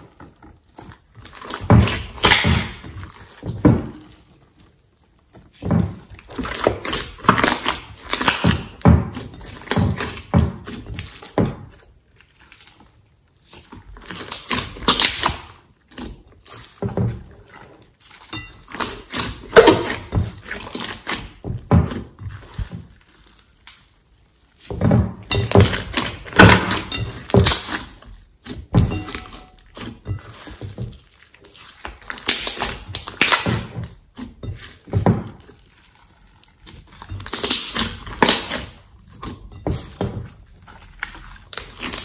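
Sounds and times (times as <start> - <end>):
slime squelching: 0.0 - 42.0.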